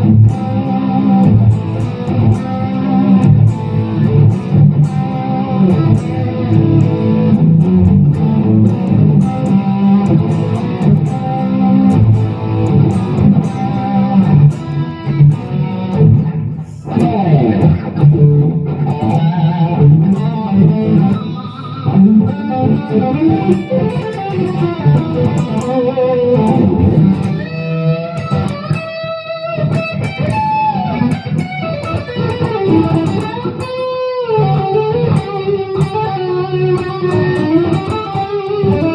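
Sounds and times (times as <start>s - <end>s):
amplified electric guitar: 0.0s - 38.9s.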